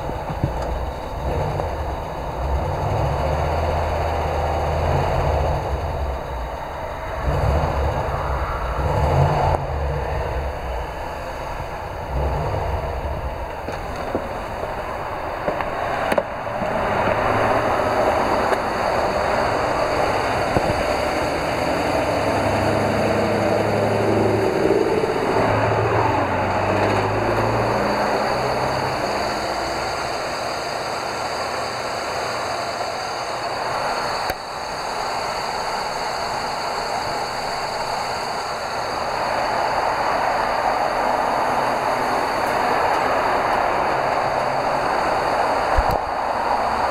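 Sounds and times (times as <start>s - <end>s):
bus engine idling: 0.0s - 46.9s.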